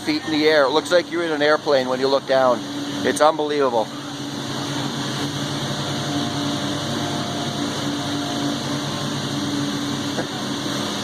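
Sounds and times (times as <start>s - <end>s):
drive machinery humming: 0.0s - 11.0s
faint high whine: 0.0s - 11.0s.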